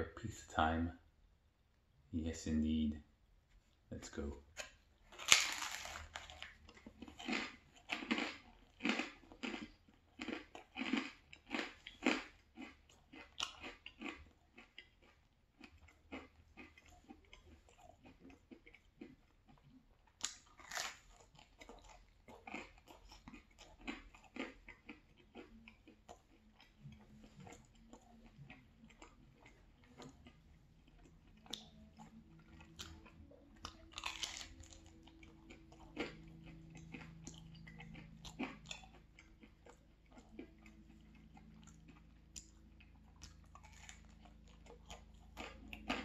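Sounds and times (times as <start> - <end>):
crunchy chewing of pizza: 4.2 - 46.0.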